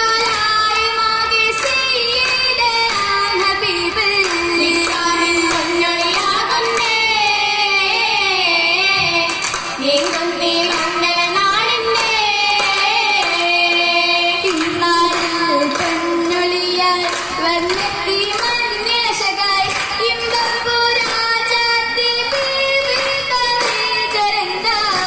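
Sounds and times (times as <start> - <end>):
girls singing: 0.0 - 25.0
hand claps: 0.0 - 25.0.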